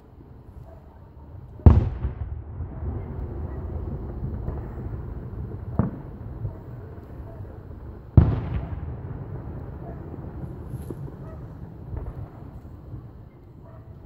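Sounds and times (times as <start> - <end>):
distant fireworks booming: 0.2 - 14.0.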